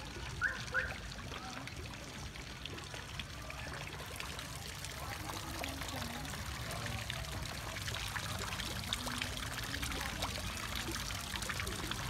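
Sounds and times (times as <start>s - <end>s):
fountain water trickling: 0.0s - 12.0s.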